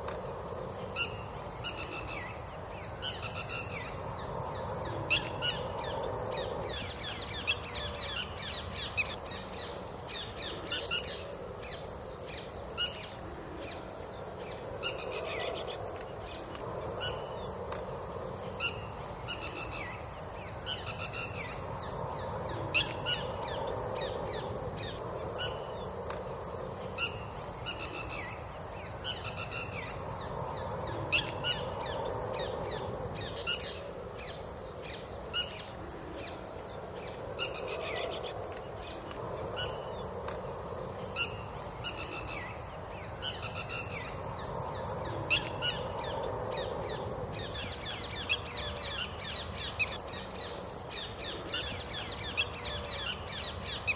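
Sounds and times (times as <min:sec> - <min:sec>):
high-pitched insect drone: 0:00.0 - 0:53.9.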